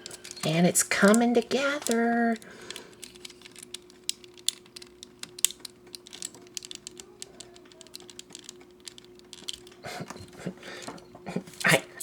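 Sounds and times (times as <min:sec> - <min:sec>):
plastic parts clicking: 0:00.0 - 0:11.8
faint steady hum: 0:00.0 - 0:12.0.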